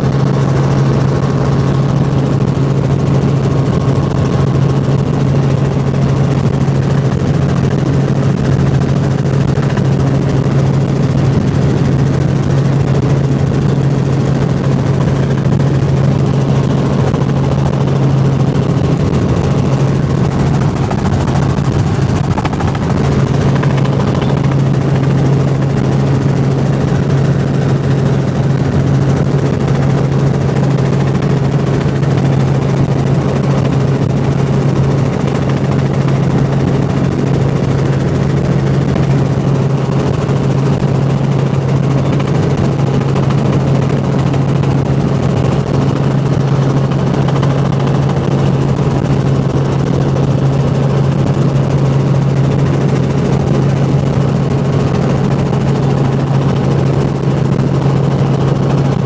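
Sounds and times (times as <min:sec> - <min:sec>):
helicopter engine and rotors: 0:00.0 - 0:59.0.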